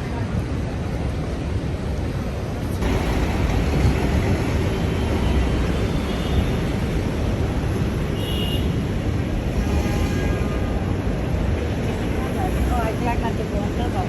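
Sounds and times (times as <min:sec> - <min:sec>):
low rumble of city noise: 0:00.0 - 0:14.0.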